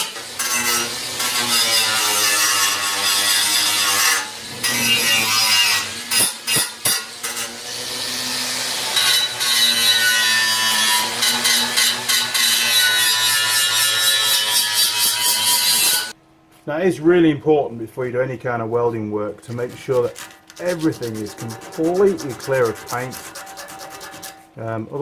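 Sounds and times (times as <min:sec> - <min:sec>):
electric grinder scraping paint: 0:00.0 - 0:16.2, 0:19.5 - 0:24.5.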